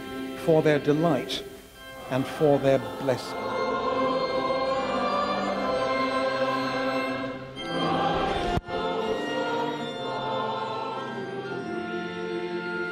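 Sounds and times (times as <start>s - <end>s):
choir singing: 0.0s - 12.9s.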